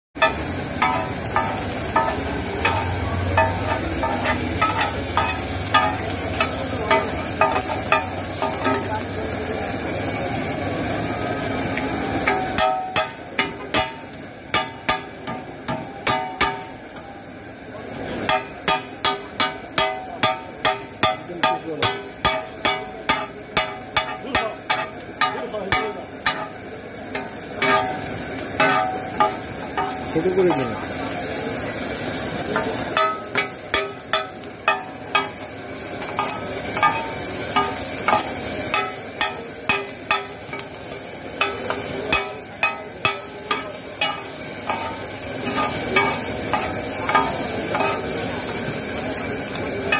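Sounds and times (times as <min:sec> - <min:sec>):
cleaver clanking on griddle: 0:00.2 - 0:09.8, 0:11.4 - 0:17.2, 0:17.9 - 0:49.9
oil sizzling: 0:00.2 - 0:49.9.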